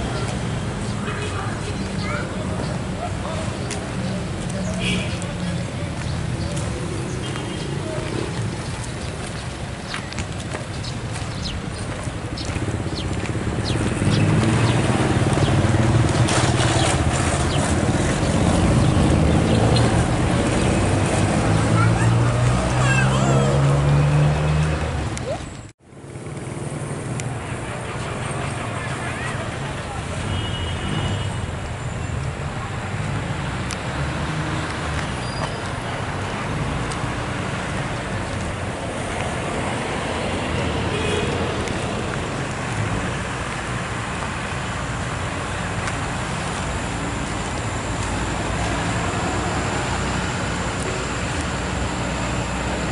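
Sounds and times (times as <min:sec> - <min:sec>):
street traffic rumble: 0:00.0 - 0:52.9.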